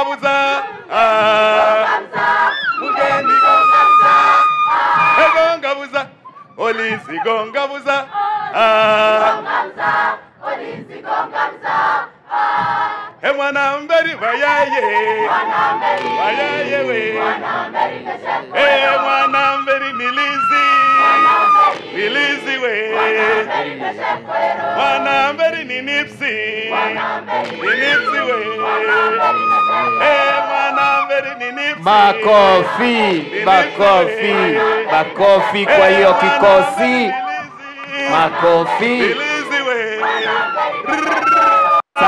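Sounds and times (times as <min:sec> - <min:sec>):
choir chanting: 0:00.1 - 0:05.4, 0:08.0 - 0:13.2, 0:14.2 - 0:41.2.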